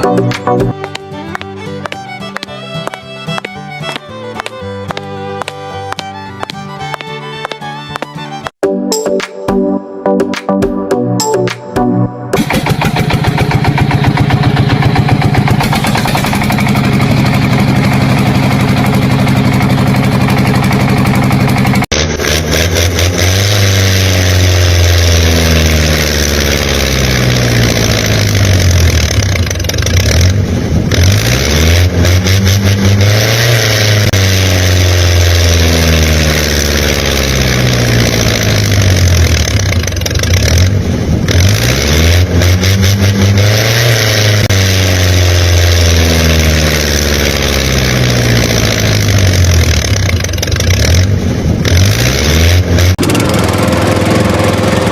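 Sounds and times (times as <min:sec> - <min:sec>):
engine running and revving: 0:00.0 - 0:08.6, 0:12.4 - 0:54.9.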